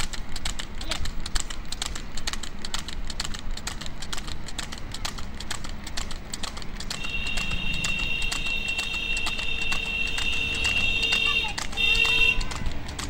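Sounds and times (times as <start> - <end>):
hooves clopping on asphalt: 0.0 - 13.0.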